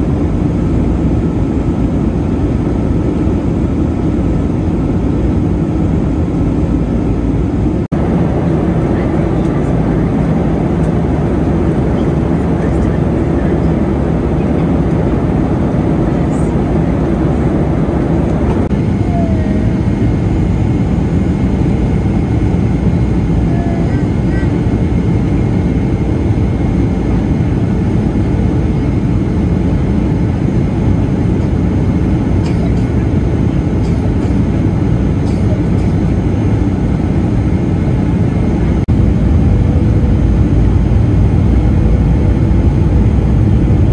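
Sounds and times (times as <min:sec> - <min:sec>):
jet engine drone: 0:00.0 - 0:43.9.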